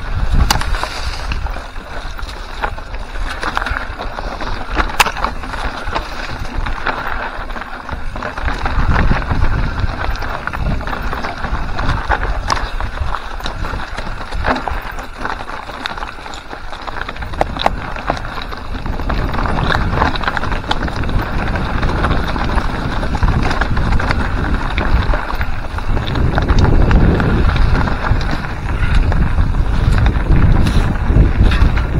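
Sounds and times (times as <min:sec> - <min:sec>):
bike clicking and rattling: 0:00.0 - 0:31.9
tyres crunching over loose stones: 0:00.0 - 0:31.9
wind buffeting microphone: 0:00.0 - 0:31.9.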